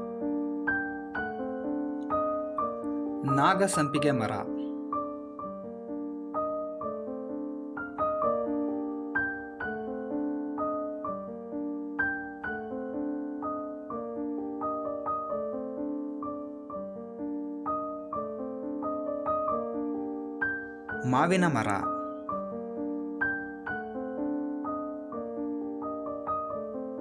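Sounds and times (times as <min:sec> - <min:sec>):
gentle electric piano music: 0:00.0 - 0:27.0.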